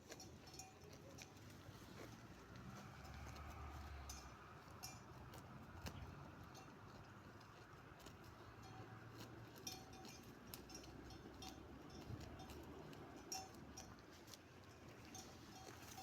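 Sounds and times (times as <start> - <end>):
sheep bells clinking: 0.0 - 16.0.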